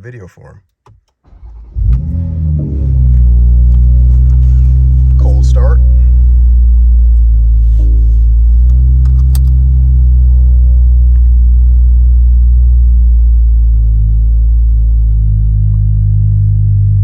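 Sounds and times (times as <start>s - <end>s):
car exhaust idling: 1.8s - 17.0s.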